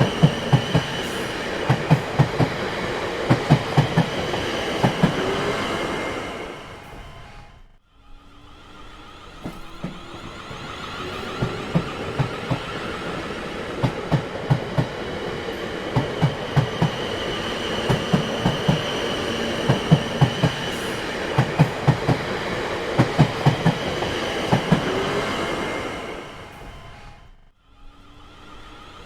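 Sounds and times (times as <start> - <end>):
train wheels clattering: 0.0 - 7.2, 9.3 - 27.1
train rumble: 0.0 - 29.0.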